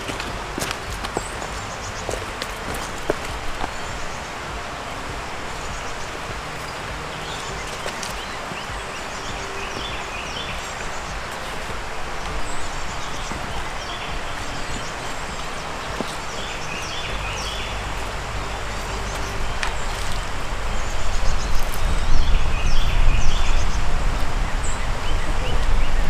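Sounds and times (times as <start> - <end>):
small birds chirping: 0.0 - 26.0
steady hiss: 0.0 - 26.0
wind rumble on microphone: 0.0 - 26.0.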